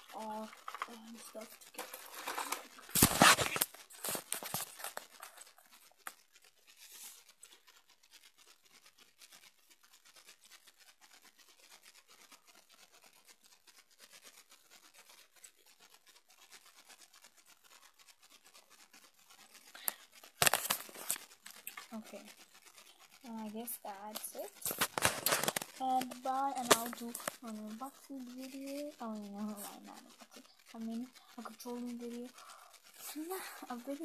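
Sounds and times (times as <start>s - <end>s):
camera rubbing and rustling: 0.0s - 34.0s
faint crackle with clicks: 0.0s - 34.0s.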